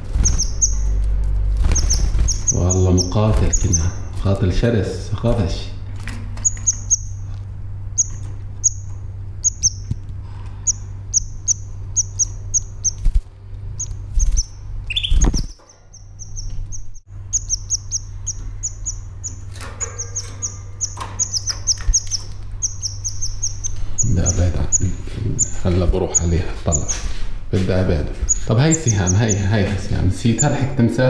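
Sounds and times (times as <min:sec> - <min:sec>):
canary chirping: 0:00.0 - 0:04.7, 0:06.4 - 0:10.0, 0:10.6 - 0:27.1, 0:28.2 - 0:30.8
low hum: 0:00.0 - 0:31.0.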